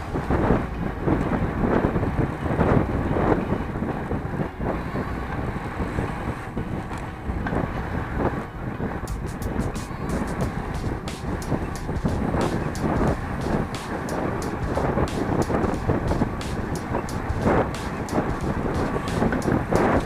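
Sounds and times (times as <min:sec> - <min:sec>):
rushing road noise: 0:00.0 - 0:20.0
wind buffeting microphone: 0:00.0 - 0:20.0.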